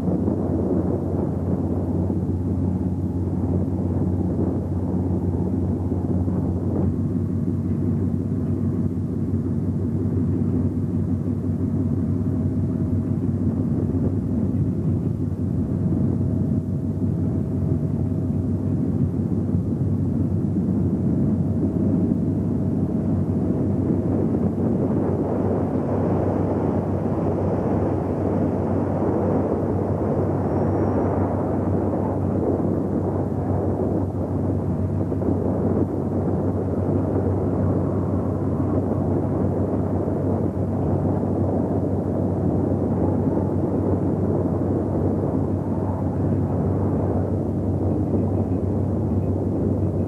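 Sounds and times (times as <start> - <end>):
faint high whine: 0.0 - 50.0
ship engines droning: 0.0 - 50.0
wind on microphone: 0.0 - 50.0.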